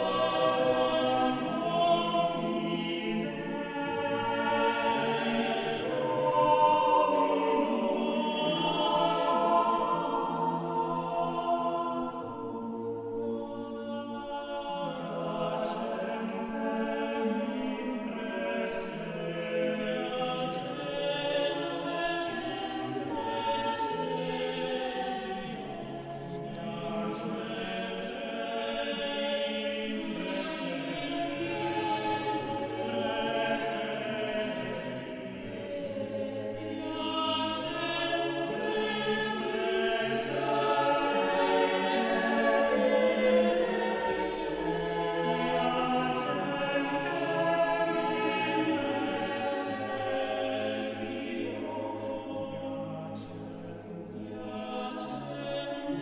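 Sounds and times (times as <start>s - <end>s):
choir singing held notes: 0.0s - 56.0s.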